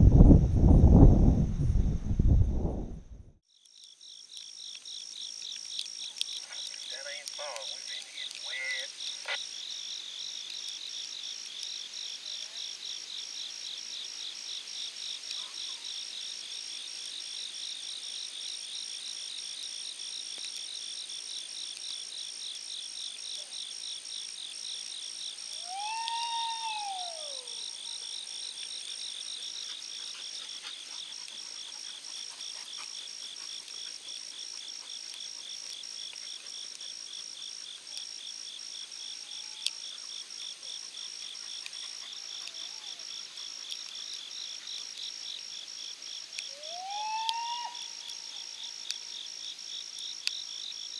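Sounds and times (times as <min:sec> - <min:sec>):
insects chirping: 0:03.5 - 0:50.9.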